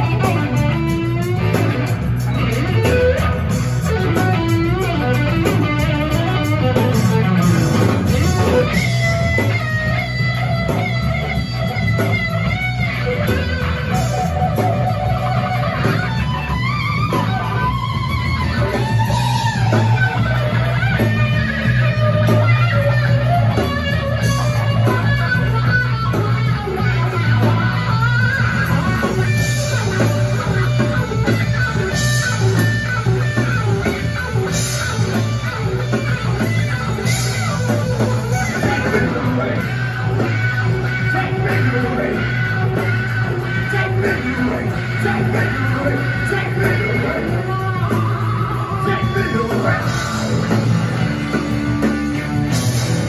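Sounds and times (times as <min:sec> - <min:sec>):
rock band playing: 0:00.0 - 0:53.0.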